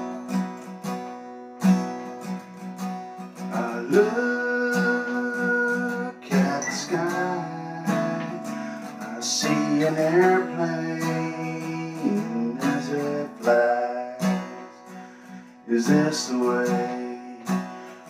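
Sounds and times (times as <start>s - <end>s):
acoustic guitar strummed: 0.0s - 18.0s
man singing: 3.4s - 18.0s.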